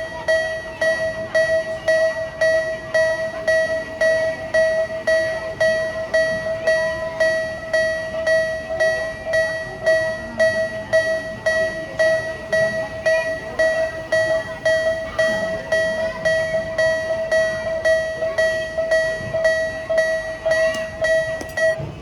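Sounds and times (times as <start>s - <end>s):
railroad crossing bell ringing: 0.0s - 22.0s.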